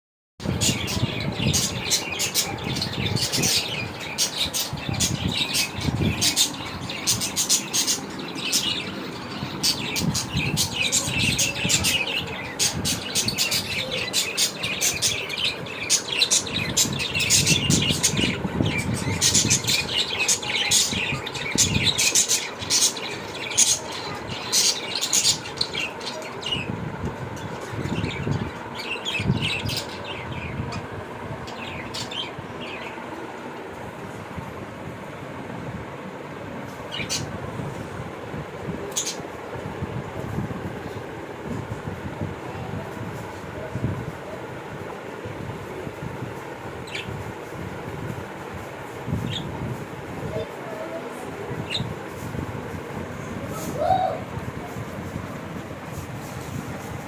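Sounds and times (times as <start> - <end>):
small birds chirping: 0.4 - 57.0.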